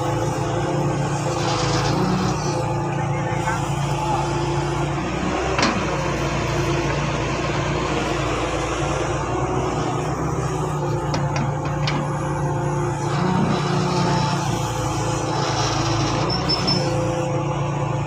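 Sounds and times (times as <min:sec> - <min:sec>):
heavy machine diesel engines: 0:00.0 - 0:18.0.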